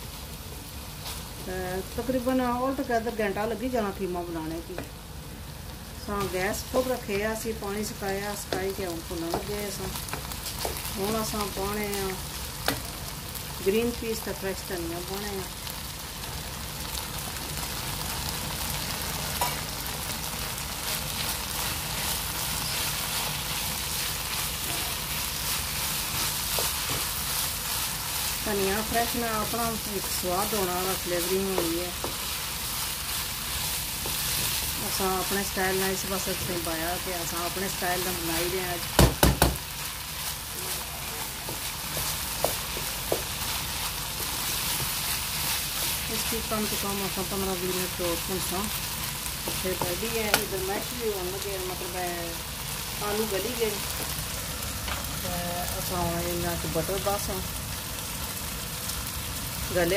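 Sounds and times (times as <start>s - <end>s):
mince sizzling in a pot: 0.0s - 59.9s.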